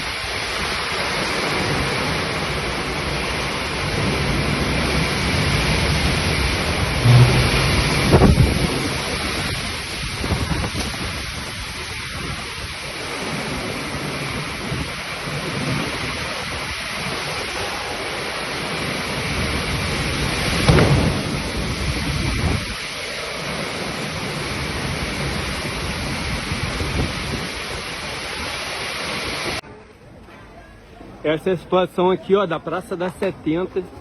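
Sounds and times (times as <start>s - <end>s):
heavy rain falling: 0.0s - 29.6s
thunder rumble: 0.0s - 29.6s.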